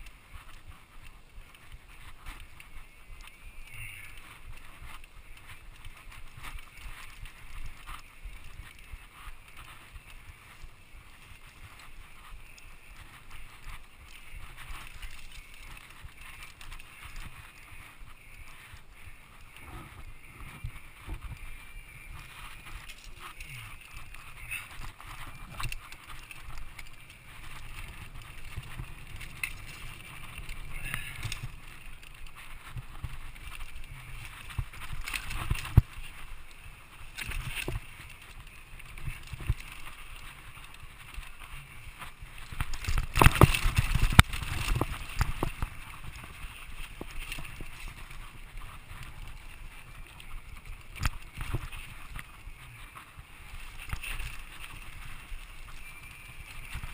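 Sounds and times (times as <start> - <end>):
bike rattling and knocking: 0.0 - 56.9
bike tyres rolling over dirt: 0.0 - 56.9.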